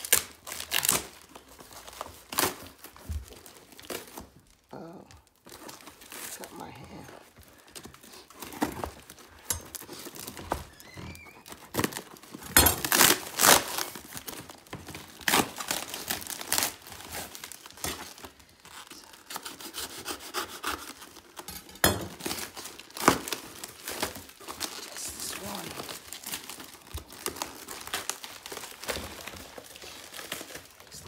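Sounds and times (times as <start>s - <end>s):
packaging crinkling and tearing: 0.0s - 31.0s.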